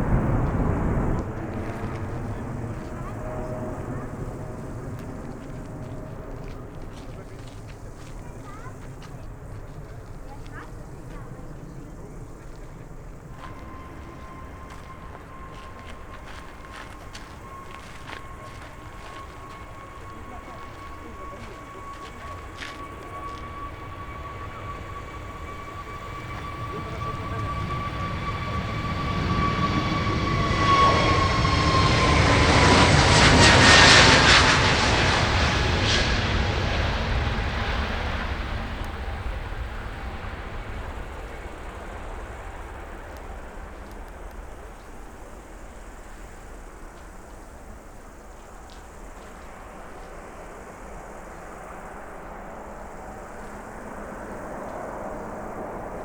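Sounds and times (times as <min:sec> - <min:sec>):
jet airliner engine whine: 0:00.0 - 0:56.0.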